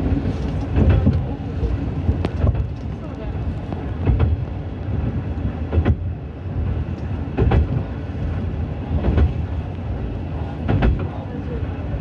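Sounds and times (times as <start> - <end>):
wheels clacking on rail joints: 0.0 - 8.0, 8.9 - 9.7, 10.4 - 11.4
diesel railcar rumbling: 0.0 - 12.0.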